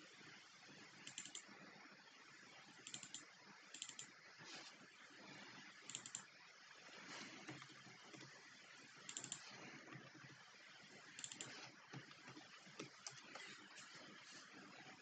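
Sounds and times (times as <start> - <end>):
steady low hiss: 0.0 - 15.0
faint keyboard typing: 0.8 - 1.6, 2.6 - 6.4, 7.0 - 15.0.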